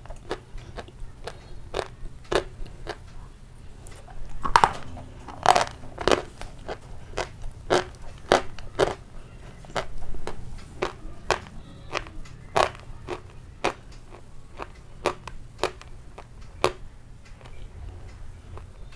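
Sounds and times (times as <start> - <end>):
chewing crunchy food: 0.0 - 18.9.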